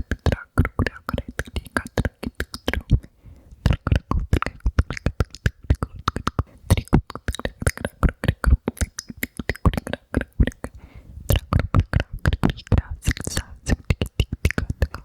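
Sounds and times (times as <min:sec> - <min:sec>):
wet mouth clicks and pops: 0:00.0 - 0:15.0.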